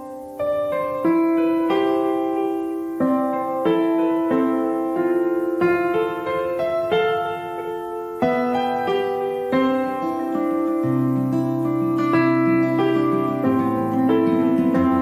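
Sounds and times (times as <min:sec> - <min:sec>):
slow piano notes and chords: 0:00.0 - 0:15.0.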